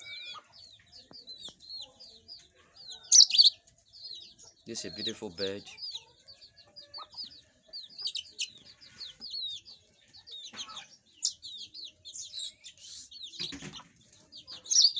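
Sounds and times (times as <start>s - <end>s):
canary chirping: 0.0s - 14.9s.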